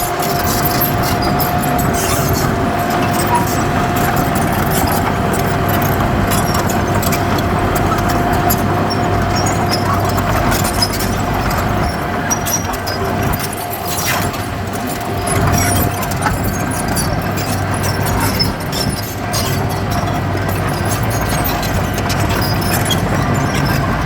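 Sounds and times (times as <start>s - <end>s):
heavy diesel machinery running: 0.0s - 24.0s.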